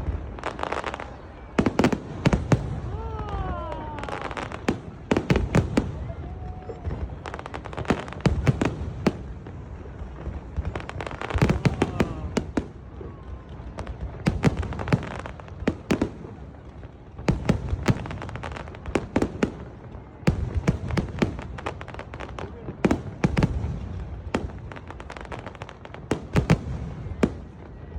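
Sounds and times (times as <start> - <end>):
fireworks bangs and crackling: 0.0 - 27.9.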